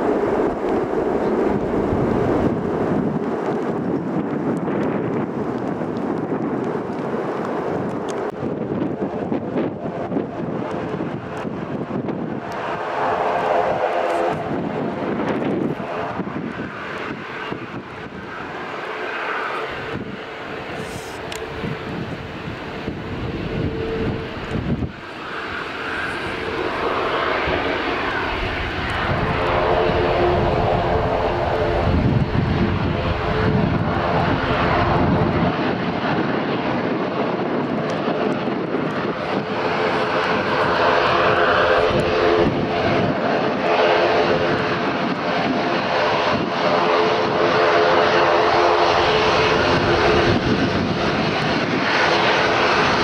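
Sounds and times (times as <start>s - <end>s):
airliner engines running: 0.0s - 53.0s
wind rumble on microphone: 0.0s - 53.0s.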